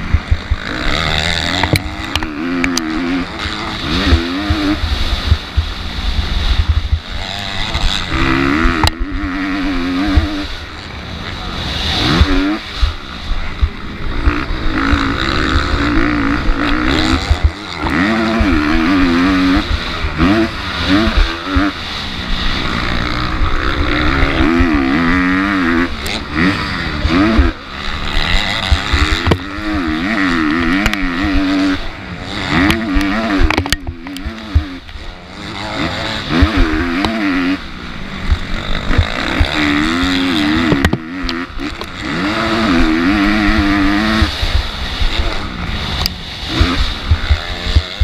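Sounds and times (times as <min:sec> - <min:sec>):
motocross bike engine racing: 0:00.0 - 0:48.0
steady low rumble: 0:00.0 - 0:48.0.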